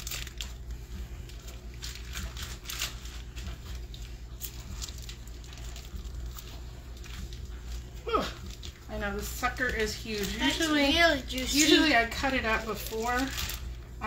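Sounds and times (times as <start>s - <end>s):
plastic packaging crinkling: 0.0s - 14.0s
steady low hum: 0.0s - 14.0s.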